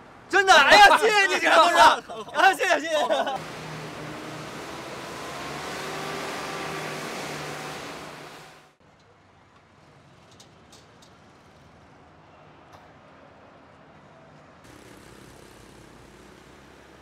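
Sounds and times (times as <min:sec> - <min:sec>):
road traffic: 0:00.0 - 0:12.3, 0:13.0 - 0:17.0.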